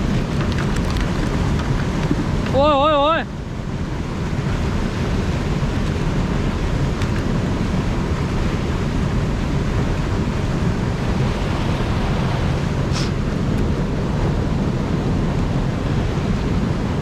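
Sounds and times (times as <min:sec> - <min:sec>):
water rushing over weir: 0:00.0 - 0:17.0.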